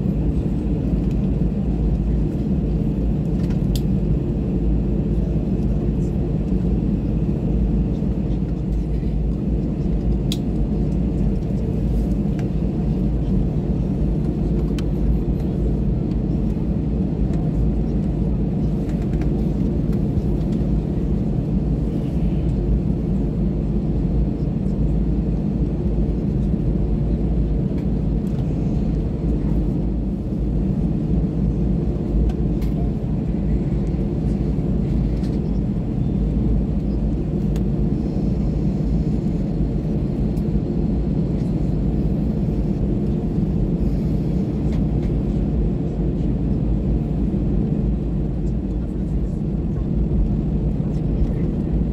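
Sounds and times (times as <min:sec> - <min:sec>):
jet engines rumbling inside cabin: 0:00.0 - 0:51.9.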